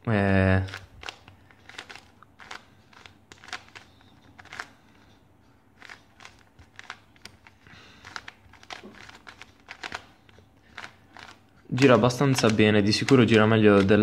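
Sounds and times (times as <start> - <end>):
plastic puzzle layers clicking: 0.7 - 4.7, 5.8 - 10.1, 10.7 - 14.0.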